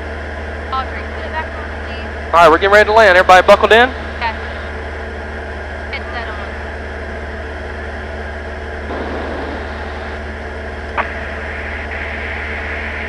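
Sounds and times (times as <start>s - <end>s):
aircraft engine and propeller: 0.0s - 13.0s.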